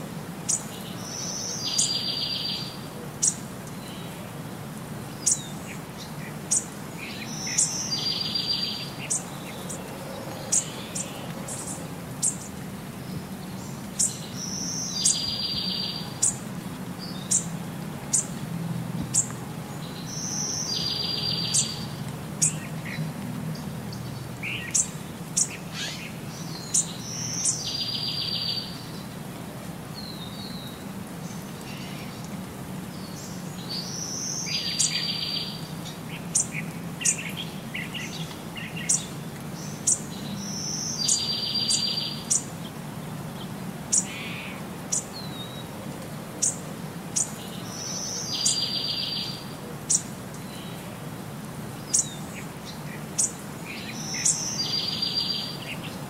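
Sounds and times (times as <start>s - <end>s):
birds chirping: 0.5s - 4.4s, 5.0s - 29.2s, 30.0s - 56.0s.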